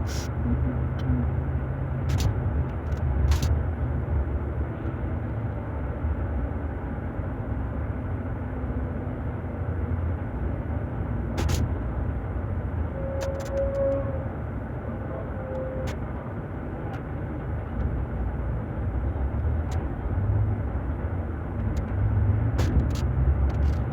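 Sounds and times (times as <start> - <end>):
diesel bus engine rumbling: 0.0 - 23.9.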